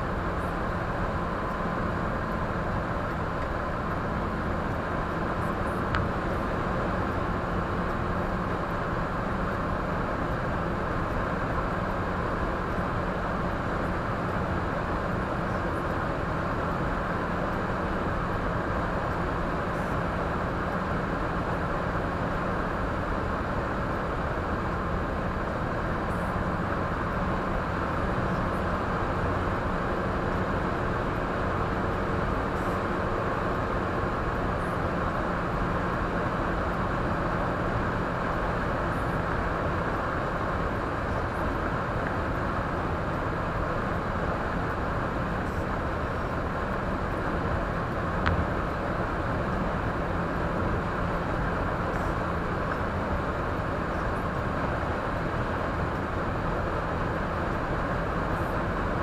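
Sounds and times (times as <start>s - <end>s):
car engine hum: 0.0s - 59.0s
faint steady whine: 0.0s - 59.0s
road and tyre noise: 0.0s - 59.0s.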